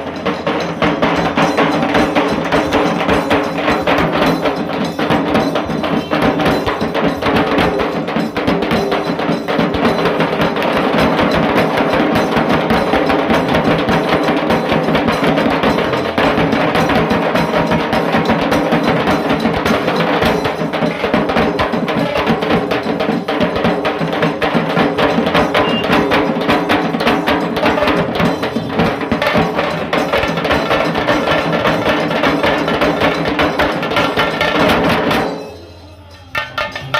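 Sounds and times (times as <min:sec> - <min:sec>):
drum band drumming fast: 0:00.0 - 0:36.9.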